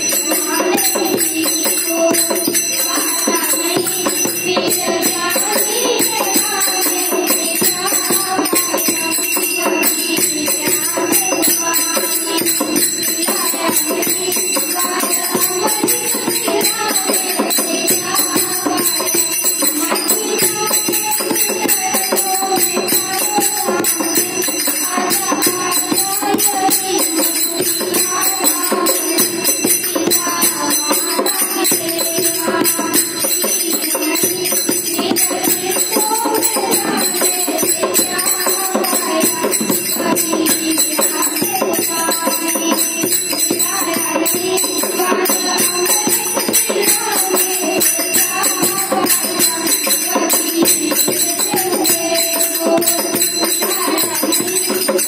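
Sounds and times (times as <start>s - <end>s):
girls singing through loudspeaker: 0.0s - 55.0s.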